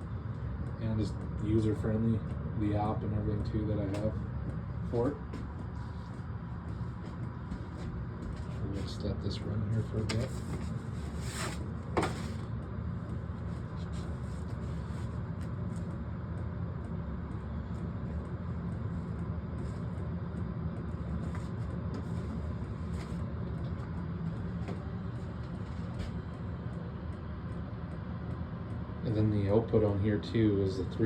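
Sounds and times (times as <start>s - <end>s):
air heater humming: 0.0s - 31.0s.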